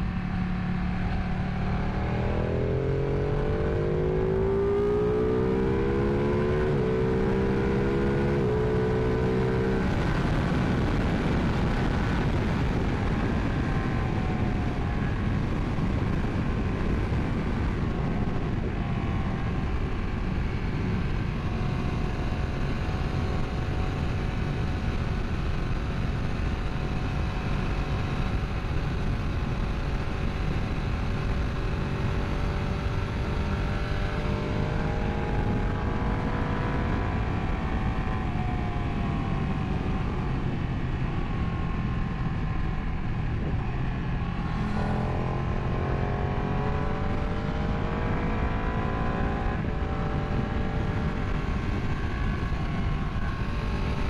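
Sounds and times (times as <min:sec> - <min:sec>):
motorcycle engine at speed: 0:00.0 - 0:54.0
wind rushing over microphone: 0:00.0 - 0:54.0.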